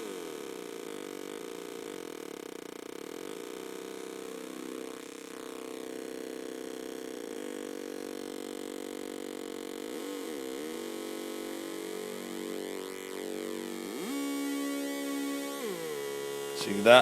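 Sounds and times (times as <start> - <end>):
buzzy square-wave synth drone: 0.0 - 17.0.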